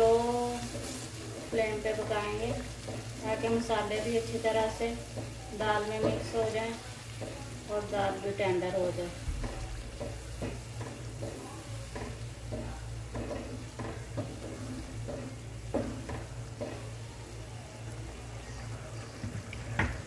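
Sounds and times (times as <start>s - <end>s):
wooden spatula scraping a pan: 0.0s - 17.0s
lentils sizzling in gravy: 0.0s - 20.0s.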